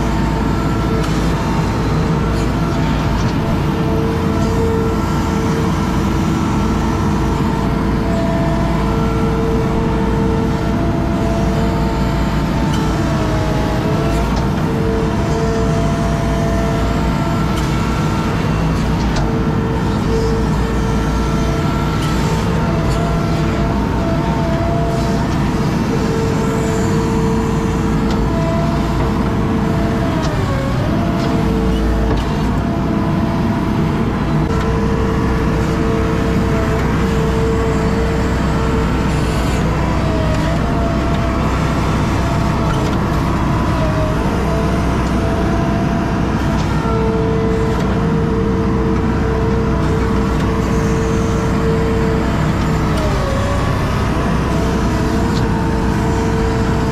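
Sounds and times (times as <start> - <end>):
skid steer engine whining: 0.0 - 56.9.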